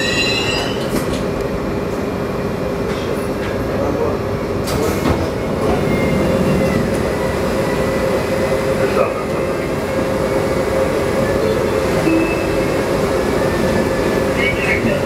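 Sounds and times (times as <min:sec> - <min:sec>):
train car rumble: 0:00.0 - 0:15.0.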